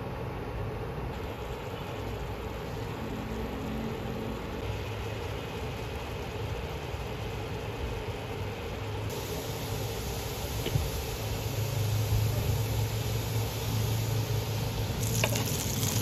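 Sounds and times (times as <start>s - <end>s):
water boiling in frying pan: 1.1s - 16.0s.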